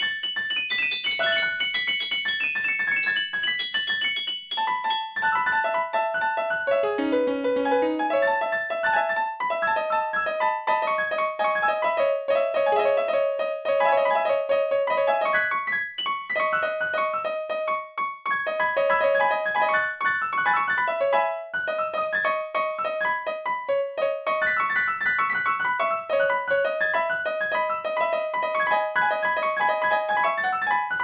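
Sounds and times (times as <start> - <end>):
piano music with quick repeated notes: 0.0 - 31.0.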